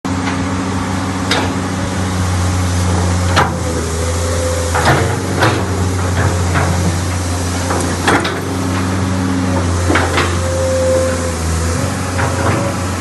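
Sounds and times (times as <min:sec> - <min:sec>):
excavator diesel engine running: 0:00.1 - 0:13.0.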